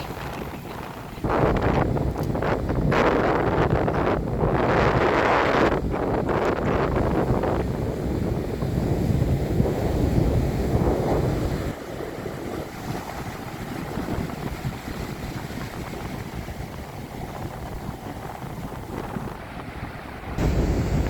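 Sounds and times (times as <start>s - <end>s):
stormy sea surf: 0.0s - 21.0s
wind buffeting microphone: 0.0s - 21.0s.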